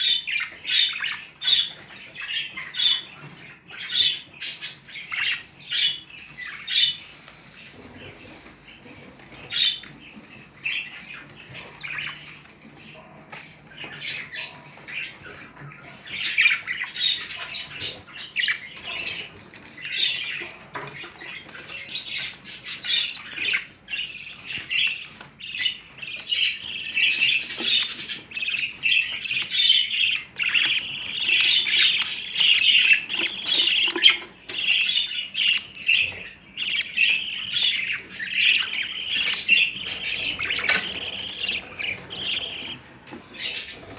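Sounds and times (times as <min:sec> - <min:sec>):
budgerigars chattering and squawking: 0:00.0 - 0:43.9.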